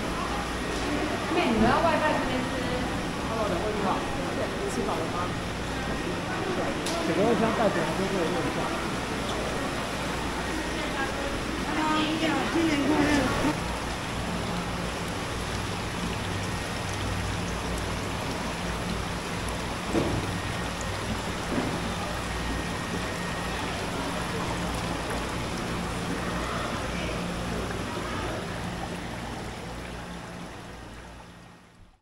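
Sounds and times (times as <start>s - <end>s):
low steady hum: 0.0s - 32.0s
noisy ambience: 0.0s - 32.0s.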